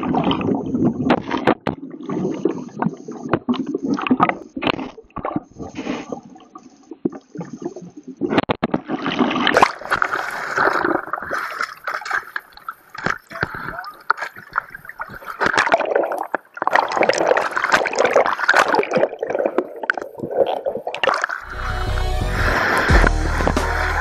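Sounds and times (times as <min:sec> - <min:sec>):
water splashing and sloshing: 0:00.0 - 0:21.5
underwater gurgling and bubbling: 0:00.0 - 0:24.0.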